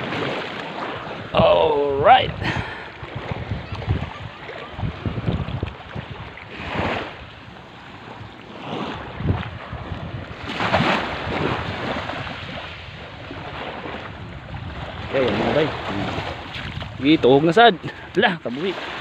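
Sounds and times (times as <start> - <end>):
wind buffeting microphone: 0.0 - 18.2
small waves washing onto sand: 0.0 - 19.0.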